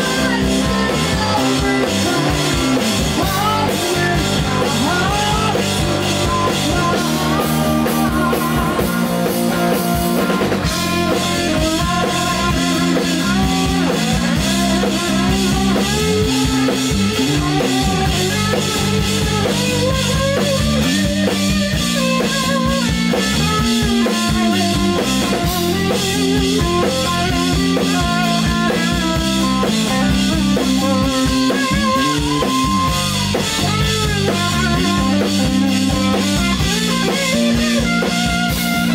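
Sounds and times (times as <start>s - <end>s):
electric guitar lead line: 0.0s - 38.9s
live rock band playing: 0.0s - 38.9s.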